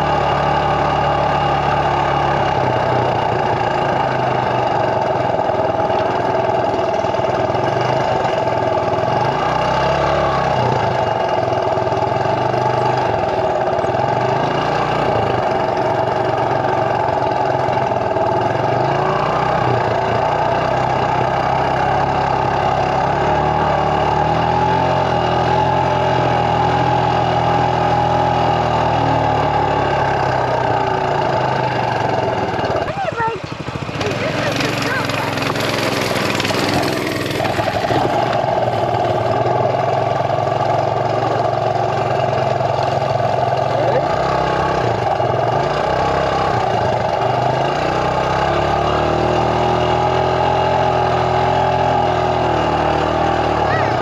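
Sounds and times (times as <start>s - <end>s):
small motorbike engine running: 0.0s - 54.0s.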